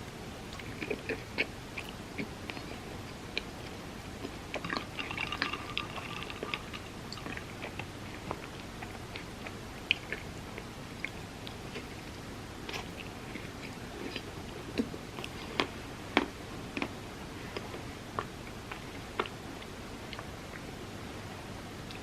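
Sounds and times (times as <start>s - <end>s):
person chewing: 0.4s - 20.6s.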